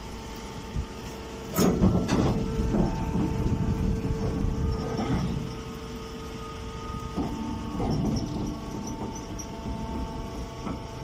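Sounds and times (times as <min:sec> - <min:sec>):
baler motor and pump humming: 0:00.0 - 0:11.0.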